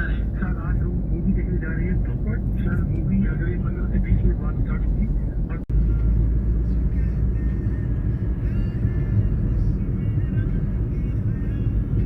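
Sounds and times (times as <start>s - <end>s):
vehicle rumble from inside cabin: 0.0s - 12.0s.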